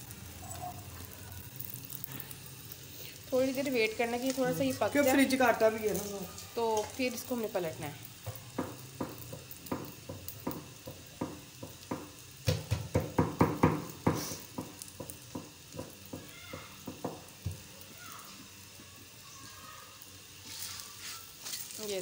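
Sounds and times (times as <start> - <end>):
flatbread sizzling with crackling pops: 0.0 - 22.0.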